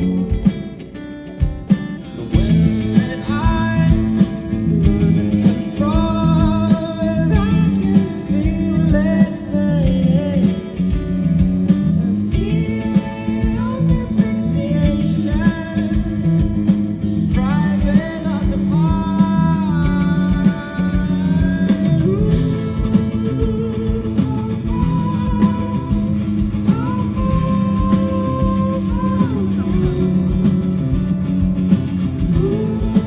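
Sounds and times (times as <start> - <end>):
man singing lead: 0.0 - 33.0
rock band playing: 0.0 - 33.0.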